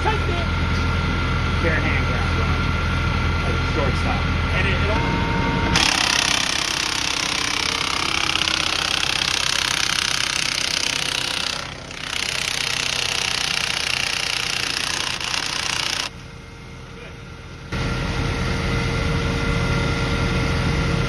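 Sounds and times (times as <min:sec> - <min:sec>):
power tool running with rattle: 0:00.0 - 0:21.0.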